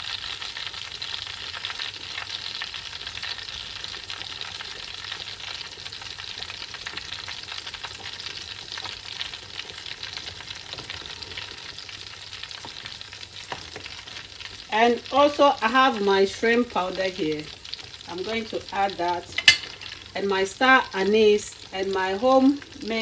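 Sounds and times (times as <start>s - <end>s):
fish sizzling in oil: 0.0s - 23.0s.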